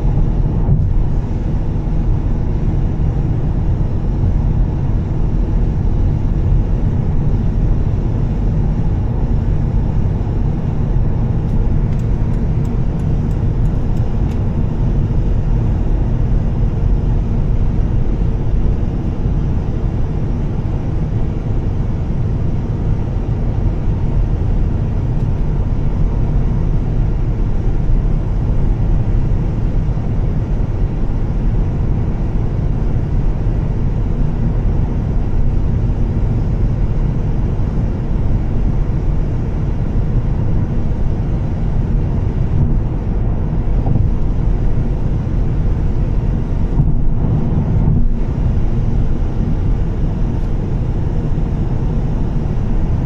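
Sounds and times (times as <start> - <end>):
car engine and exhaust drone: 0.0 - 53.0
road noise from wet road: 0.0 - 53.0.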